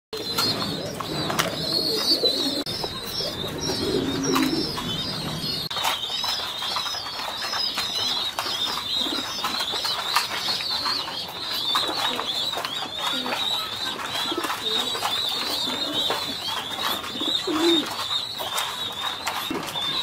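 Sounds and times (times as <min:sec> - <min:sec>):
high-pitched chirping: 0:00.2 - 0:20.0
pigeons cooing: 0:00.2 - 0:20.0.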